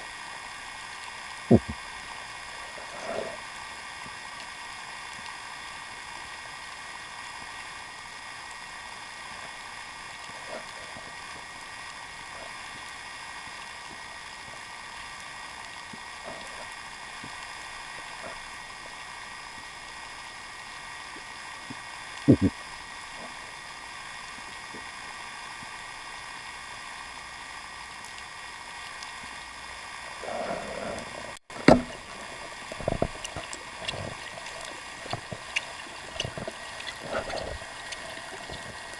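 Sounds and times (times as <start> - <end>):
underwater hiss: 0.0 - 38.9.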